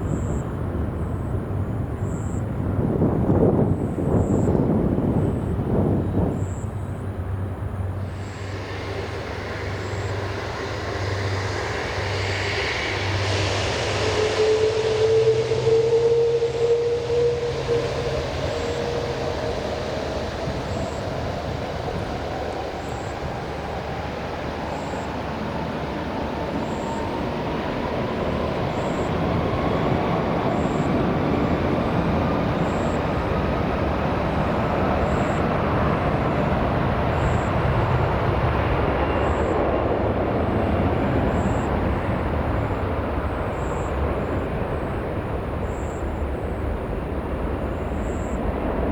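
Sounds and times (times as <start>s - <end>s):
jet engine whine rising in pitch: 0.0s - 48.9s
jet engines roaring: 0.0s - 48.9s.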